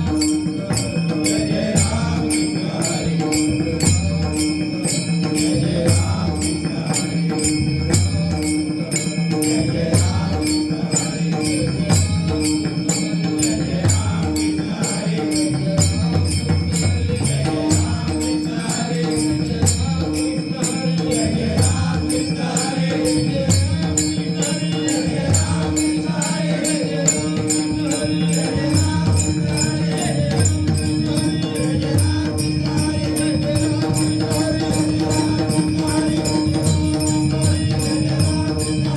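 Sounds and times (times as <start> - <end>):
small hand cymbals: 0.0 - 38.9.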